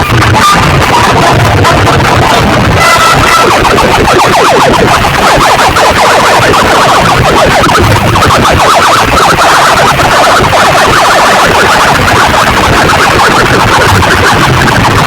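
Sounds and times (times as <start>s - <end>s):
distorted siren-like warble: 0.0s - 15.0s.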